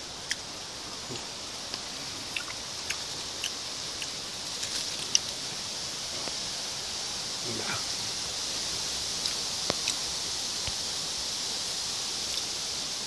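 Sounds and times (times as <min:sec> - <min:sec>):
high-pitched insect drone: 0:00.0 - 0:13.0
leaves rustling: 0:00.0 - 0:13.0.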